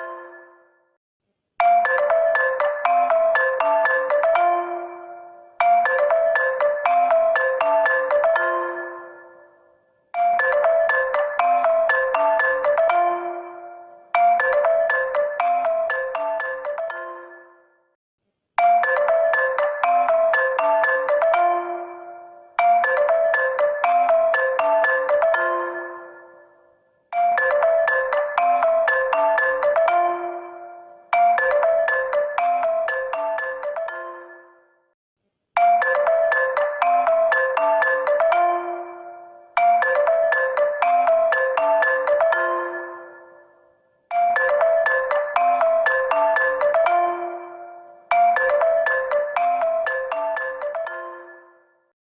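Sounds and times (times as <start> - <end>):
phone ringtone melody: 0.0 - 0.9, 1.6 - 18.0, 18.6 - 35.0, 35.6 - 51.9.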